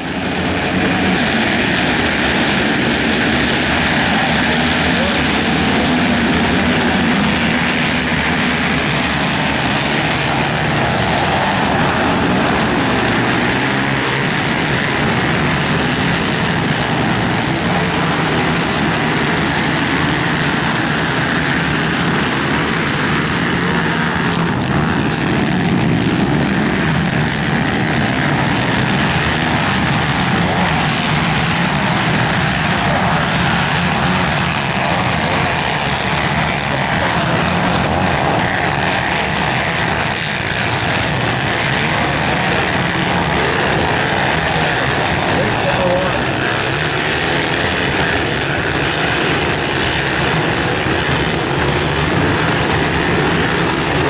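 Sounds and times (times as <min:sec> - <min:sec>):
racing quad engines at high revs: 0:00.0 - 0:54.0.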